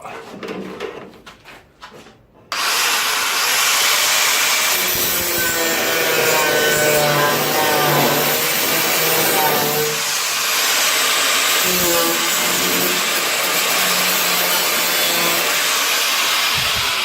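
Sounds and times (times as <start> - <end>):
power tool cutting sheet metal: 2.5 - 17.0.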